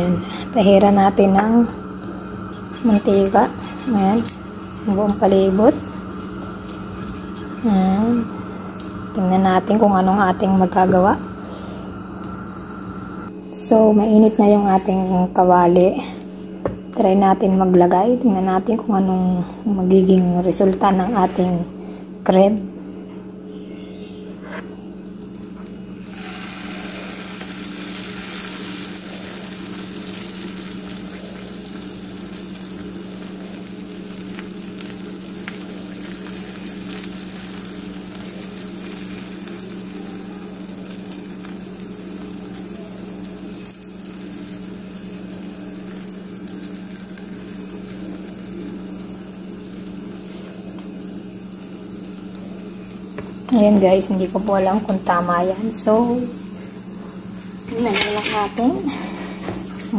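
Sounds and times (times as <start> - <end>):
batter sizzling in a frying pan: 0.0 - 13.2, 25.0 - 59.9
steady low hum: 0.0 - 59.9.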